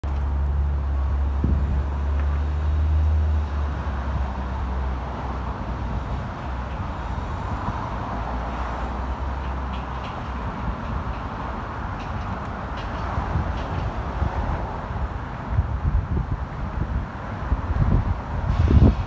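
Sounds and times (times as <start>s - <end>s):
steady traffic hiss: 0.1s - 19.0s.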